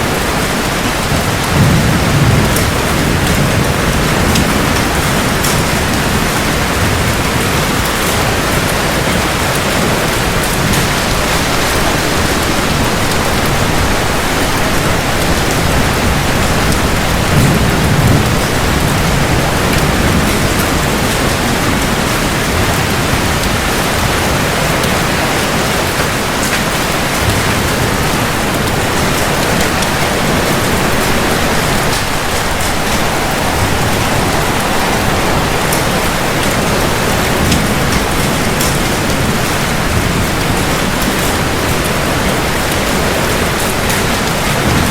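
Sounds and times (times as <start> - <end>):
distant thunder rumble: 0.0 - 44.9
heavy rain on hard surfaces: 0.0 - 44.9.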